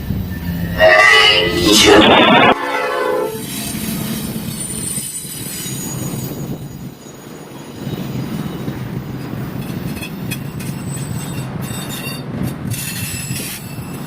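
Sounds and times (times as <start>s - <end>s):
steel wheel squeal: 0.0s - 9.0s, 9.6s - 14.0s
train rumbling past: 0.0s - 14.0s.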